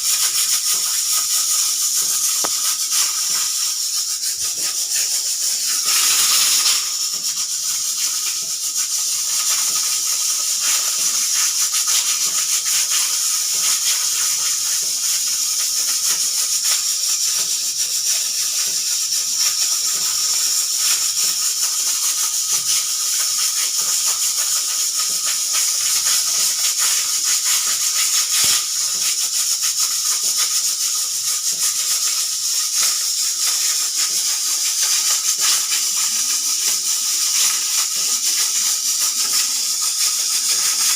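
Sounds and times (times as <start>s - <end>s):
pressure cooker steam hissing: 0.0s - 40.9s.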